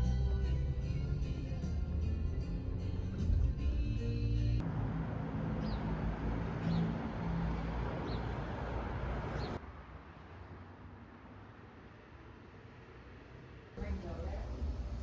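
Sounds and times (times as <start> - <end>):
vehicle road noise rumbling: 0.0 - 15.0.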